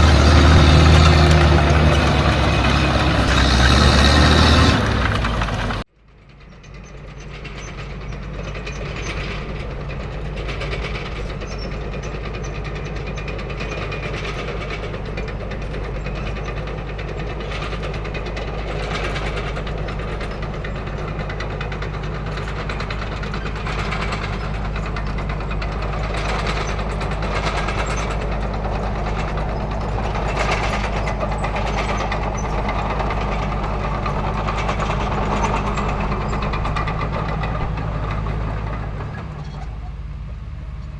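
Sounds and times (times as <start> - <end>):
heavy engine running: 0.0 - 40.9
tank tracks clanking: 0.0 - 40.9.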